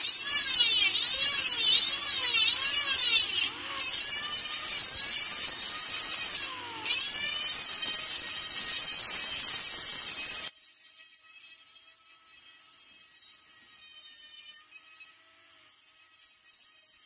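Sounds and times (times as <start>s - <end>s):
dental drill high-pitched whine: 0.0s - 17.0s.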